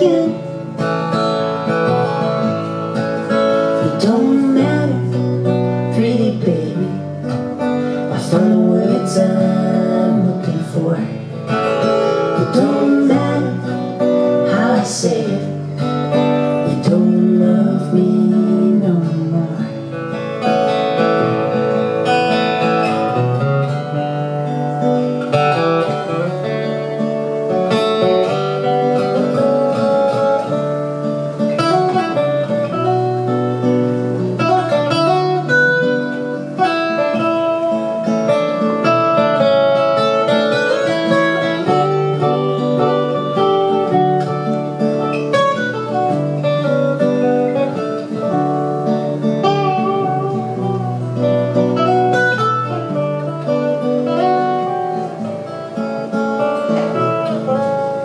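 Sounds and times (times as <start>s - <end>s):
picked guitar lead melody: 0.0s - 58.0s
strummed acoustic guitar chords: 0.0s - 58.0s.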